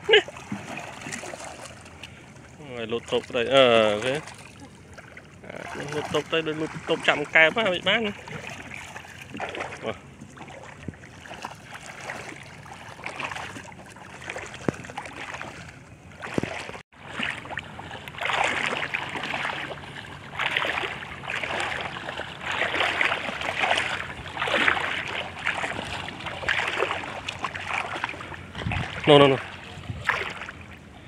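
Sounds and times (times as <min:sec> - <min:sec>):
water sloshing and splashing: 0:00.0 - 0:31.0.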